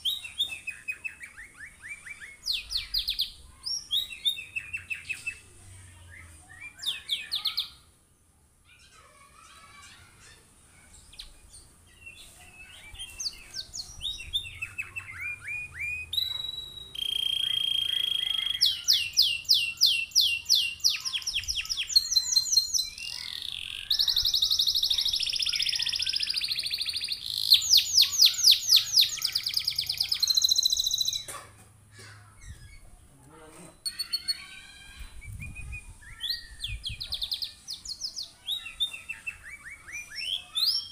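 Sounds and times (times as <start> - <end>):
canary singing: 0.0 - 7.8, 8.8 - 31.3, 32.3 - 40.9.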